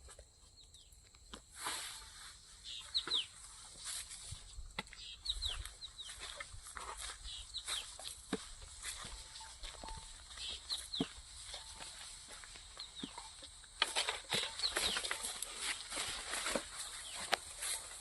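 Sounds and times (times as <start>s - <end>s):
birds chirping: 2.5s - 18.0s.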